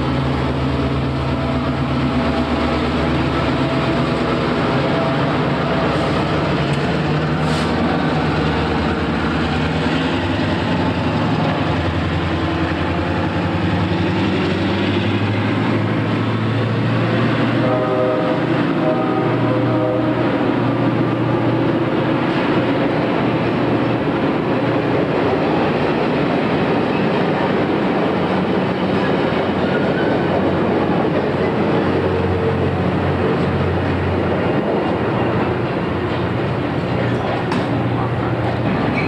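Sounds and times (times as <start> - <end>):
passing train rumble and rattle: 0.0 - 39.0.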